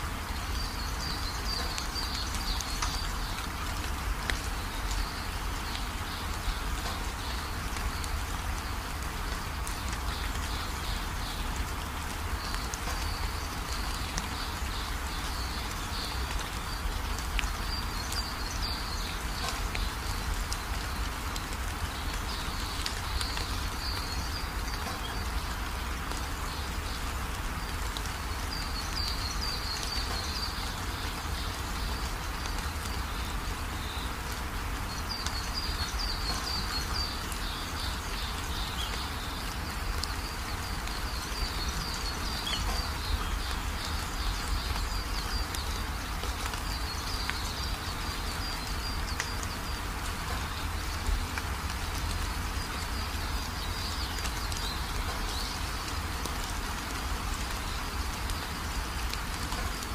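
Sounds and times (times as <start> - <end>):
rain on corrugated roof: 0.0 - 59.9.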